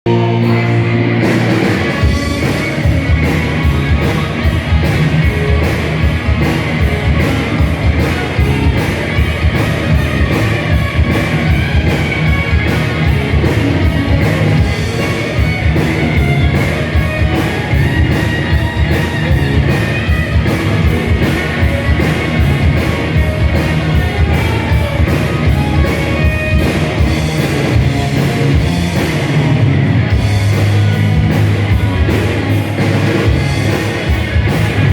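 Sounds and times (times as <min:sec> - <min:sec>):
distorted electric guitars: 0:00.0 - 0:34.9
fast drumming: 0:01.1 - 0:34.9.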